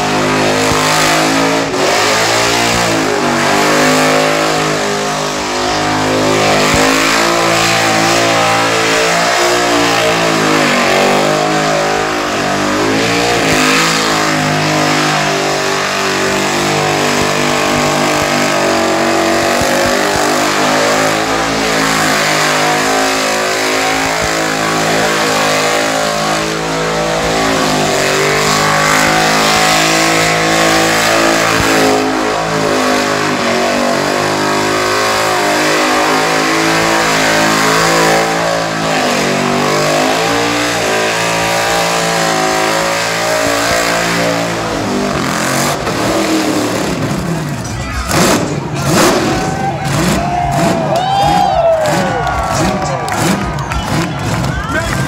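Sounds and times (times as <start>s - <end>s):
car engine revving high: 0.0s - 55.0s.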